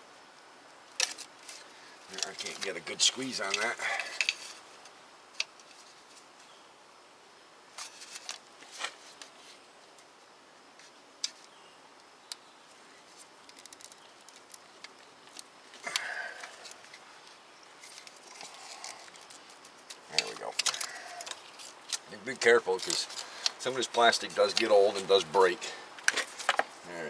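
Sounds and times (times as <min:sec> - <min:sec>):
scraping rustle: 0:01.0 - 0:06.6, 0:07.7 - 0:10.0, 0:12.9 - 0:26.8.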